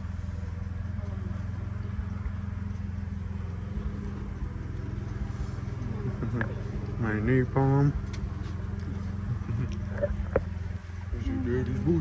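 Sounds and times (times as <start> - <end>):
portable generator humming: 0.0 - 12.0.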